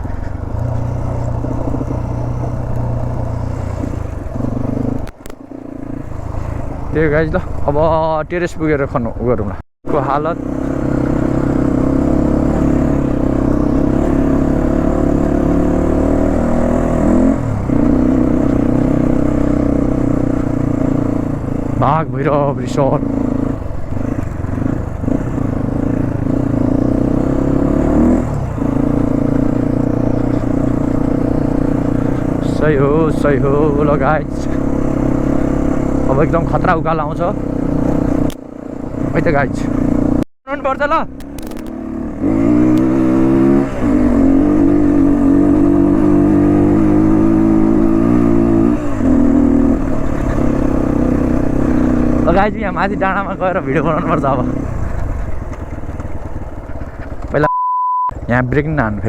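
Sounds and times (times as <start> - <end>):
motorcycle engine running: 0.0 - 57.5, 58.2 - 59.0.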